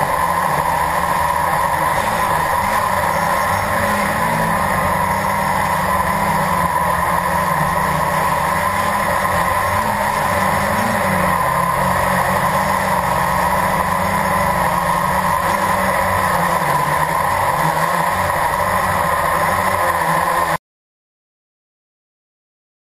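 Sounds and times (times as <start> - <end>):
drone propellers humming: 0.0 - 20.6.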